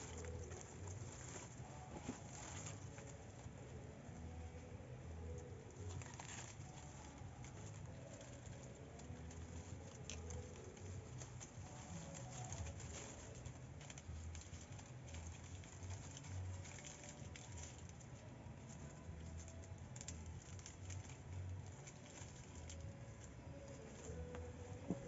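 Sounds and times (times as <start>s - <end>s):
palm fronds rustling: 0.0s - 25.0s.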